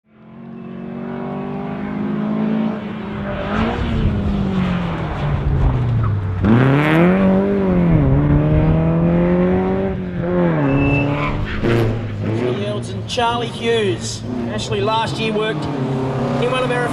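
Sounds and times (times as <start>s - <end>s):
racing car engine revving: 0.2s - 16.9s.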